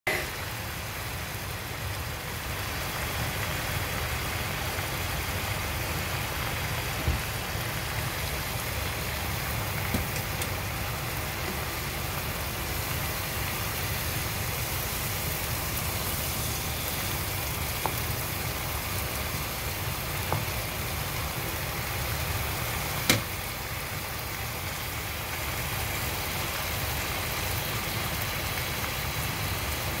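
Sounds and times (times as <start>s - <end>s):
chicken sizzling in sauce: 0.1s - 30.0s.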